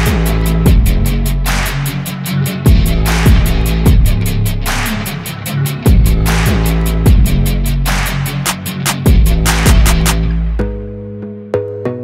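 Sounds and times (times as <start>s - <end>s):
instrumental hip-hop beat: 0.0s - 12.0s.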